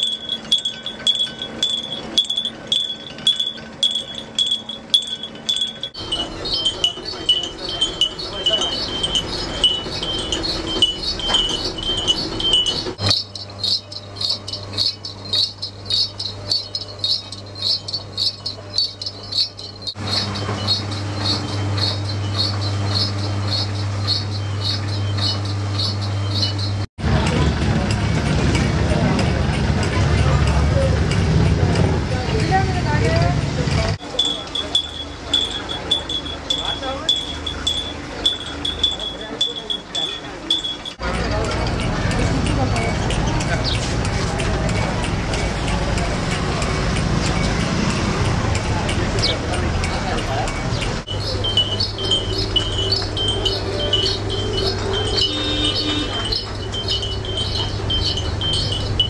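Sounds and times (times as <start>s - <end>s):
low machine hum: 0.0s - 59.0s
metallic ticking clicks: 0.0s - 59.0s.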